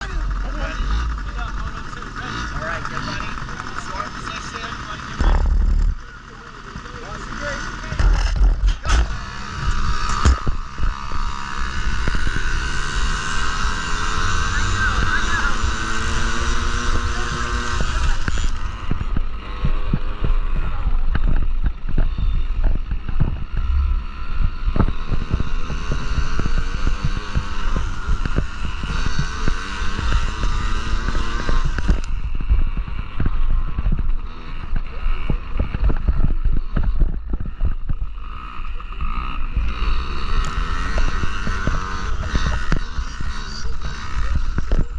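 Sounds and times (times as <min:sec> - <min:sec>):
small two-stroke engines buzzing: 0:00.0 - 0:44.9.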